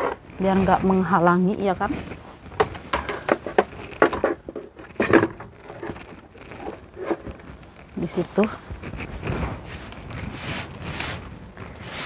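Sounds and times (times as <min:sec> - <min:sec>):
crinkly rustling: 0:00.0 - 0:12.0
handling noises: 0:00.0 - 0:12.0.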